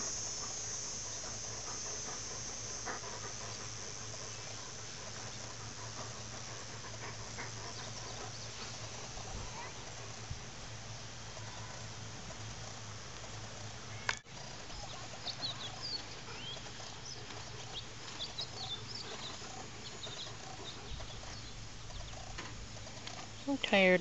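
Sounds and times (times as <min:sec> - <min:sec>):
birds chirping: 0:00.0 - 0:10.5, 0:13.9 - 0:24.0
low steady hum: 0:00.0 - 0:24.0.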